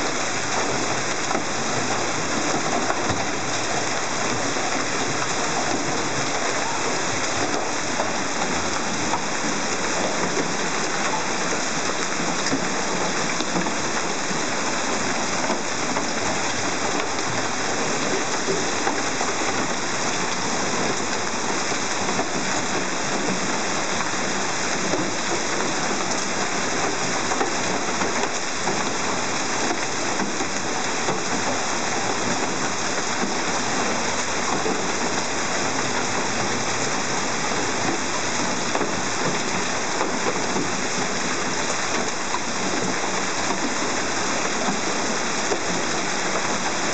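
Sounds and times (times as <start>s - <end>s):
hail and rain pelting cars: 0.0s - 46.9s.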